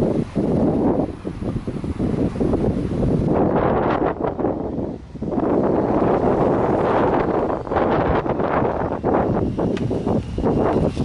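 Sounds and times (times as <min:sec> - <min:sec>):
car exhaust engine running: 0:00.0 - 0:11.0
wind buffeting microphone: 0:00.0 - 0:11.0.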